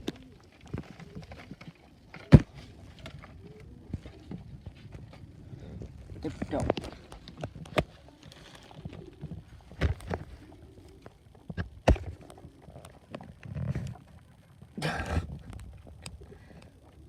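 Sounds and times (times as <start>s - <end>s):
rustling: 0.0s - 14.1s.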